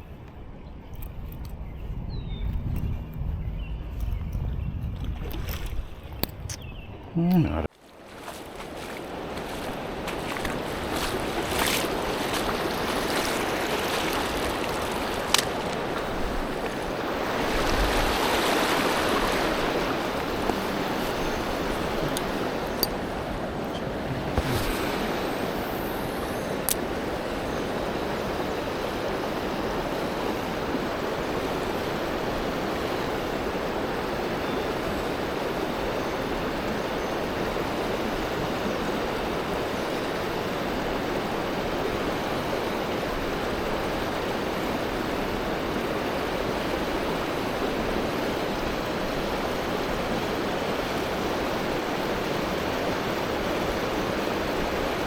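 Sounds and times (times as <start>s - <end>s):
river water rushing: 7.3s - 55.0s.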